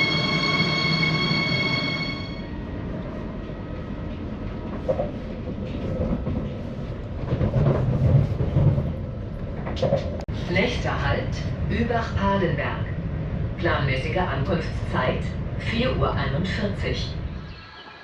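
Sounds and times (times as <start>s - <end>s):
train carriage rumbling: 0.0s - 17.8s.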